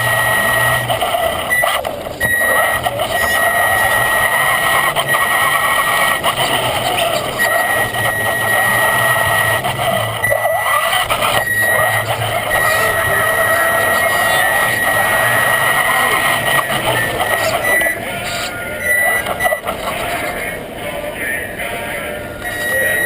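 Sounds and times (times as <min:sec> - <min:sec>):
electric motor whining: 0:00.0 - 0:20.7.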